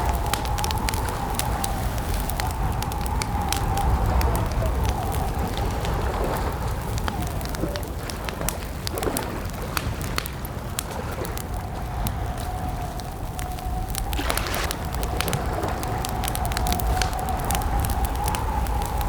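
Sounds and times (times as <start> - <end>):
campfire crackling and popping: 0.0 - 19.0
low rumble of burning: 0.0 - 19.0.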